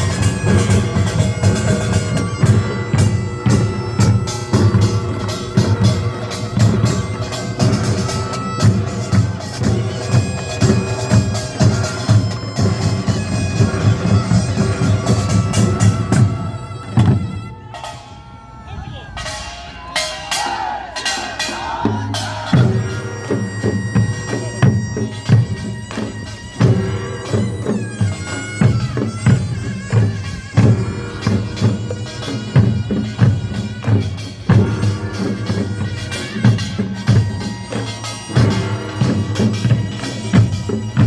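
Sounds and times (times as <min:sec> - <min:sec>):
heavy drum beat: 0:00.0 - 0:18.2, 0:19.1 - 0:41.0
gongs: 0:00.0 - 0:41.0
shawm playing wavering melody: 0:00.0 - 0:41.0.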